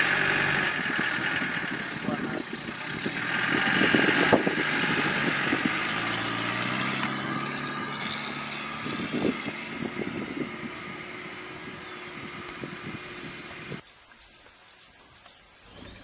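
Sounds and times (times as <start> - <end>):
vehicle engine running: 0.0 - 13.8.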